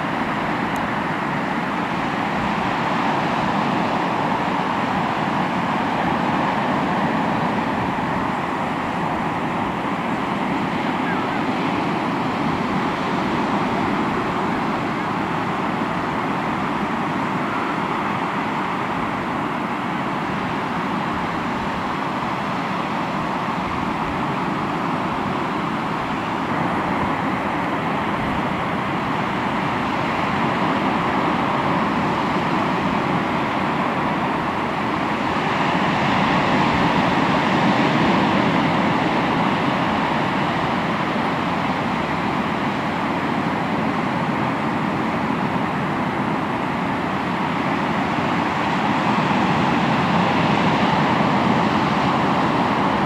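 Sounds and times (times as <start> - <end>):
sea waves washing ashore: 0.0 - 53.0.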